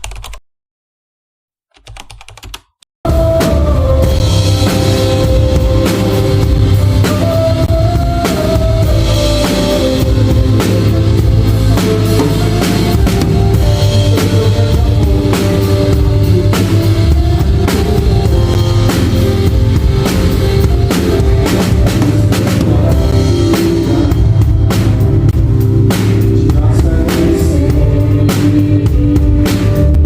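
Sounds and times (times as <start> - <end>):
sustained guitar notes: 3.1 - 29.2
rock music with drums: 3.1 - 30.0.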